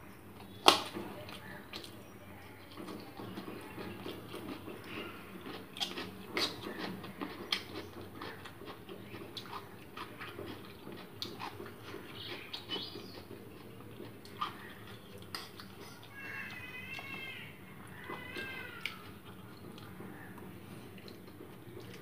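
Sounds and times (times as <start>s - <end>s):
chewing noodles: 2.6s - 22.0s.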